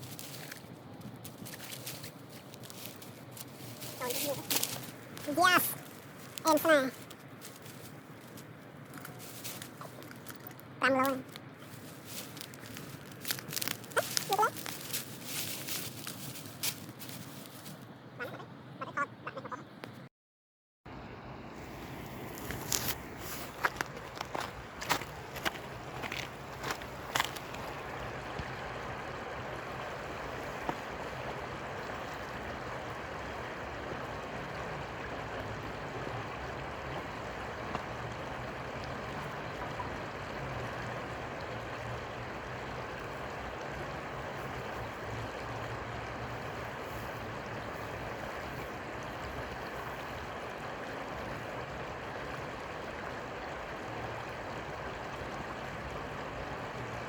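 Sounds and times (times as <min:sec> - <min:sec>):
flowing river water: 0:00.0 - 0:19.5, 0:20.9 - 0:57.0.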